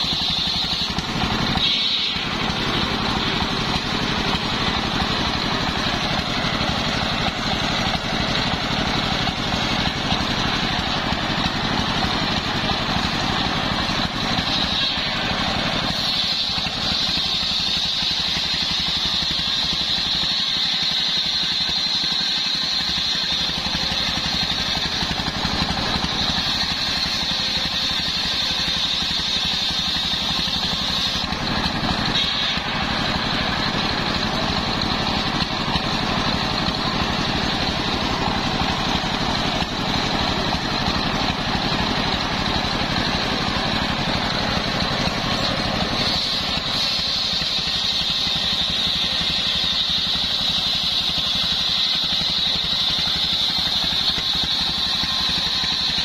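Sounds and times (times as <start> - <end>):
circular saw blade cutting log: 0.0 - 56.0
diesel engine running: 0.0 - 56.0
saw blade spinning free whine: 0.0 - 56.0.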